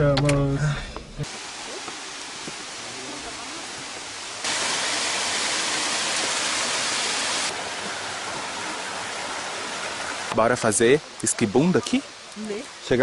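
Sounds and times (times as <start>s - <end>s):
stream water rushing over rocks: 1.2s - 13.0s.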